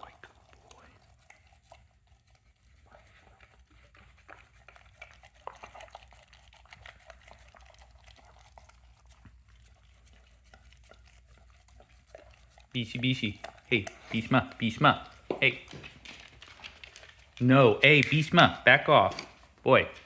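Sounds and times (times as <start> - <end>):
dog eating and licking: 0.0 - 20.0.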